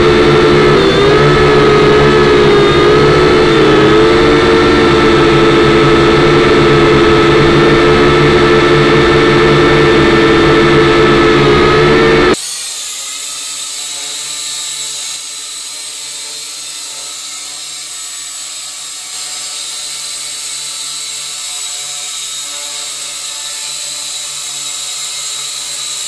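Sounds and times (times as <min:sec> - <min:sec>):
quadcopter propellers whining: 0:00.0 - 0:26.0.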